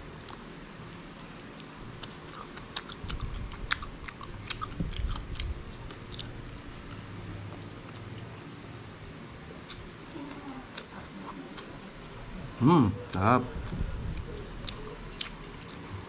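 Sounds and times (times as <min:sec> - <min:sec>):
crunchy chewing: 0:00.2 - 0:08.5, 0:09.6 - 0:12.3, 0:13.6 - 0:16.0.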